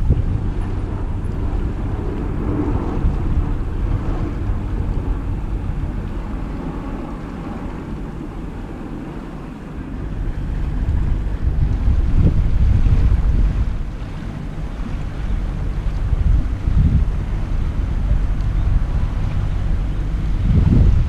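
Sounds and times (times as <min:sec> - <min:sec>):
boat engine rumbling: 0:00.0 - 0:21.0
wind buffeting microphone: 0:00.0 - 0:21.0.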